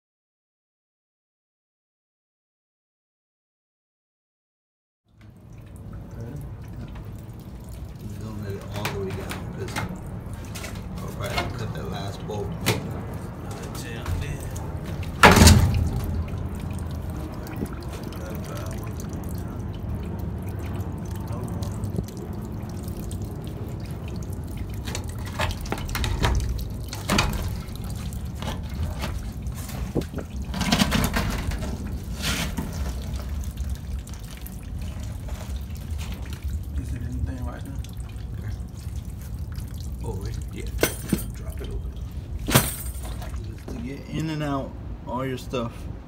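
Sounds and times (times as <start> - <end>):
water trickling onto wet gravel: 5.2 - 44.6
steady low hum: 5.4 - 46.0.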